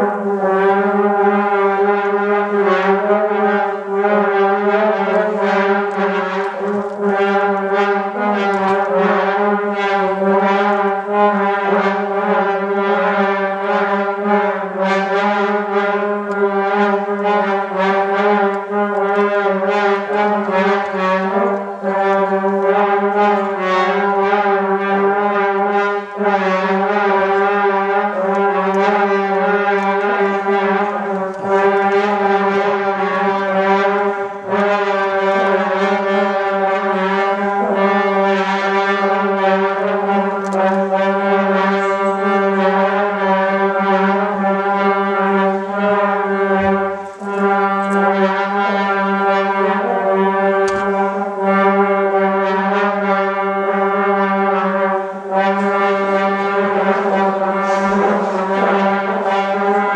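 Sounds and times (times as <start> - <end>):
trombones holding sustained chord: 0.0 - 59.9.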